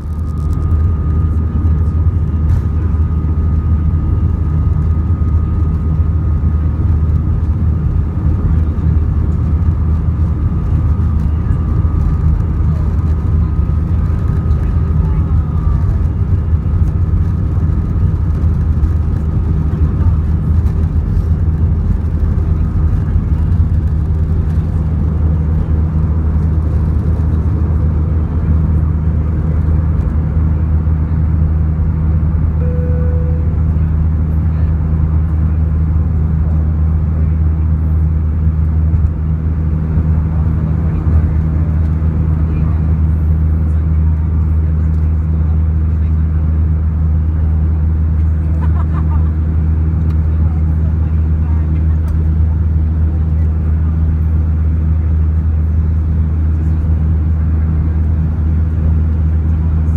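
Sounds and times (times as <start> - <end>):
faint steady whines: 0.0 - 59.9
jet engine rumble: 0.0 - 59.9.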